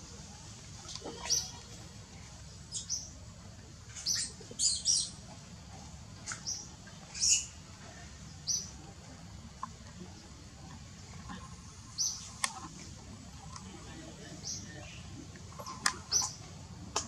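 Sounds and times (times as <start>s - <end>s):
low steady background noise: 0.0s - 17.0s
birds chirping: 0.3s - 17.0s.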